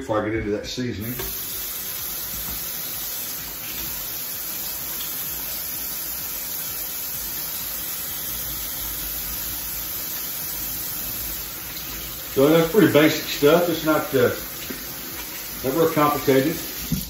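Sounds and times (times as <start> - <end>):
hands being washed: 1.0 - 17.0
faucet running into sink: 1.1 - 17.0.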